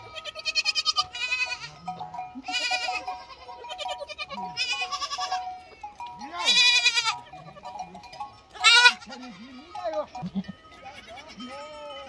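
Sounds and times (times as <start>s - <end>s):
young goats bleating: 0.0s - 12.0s.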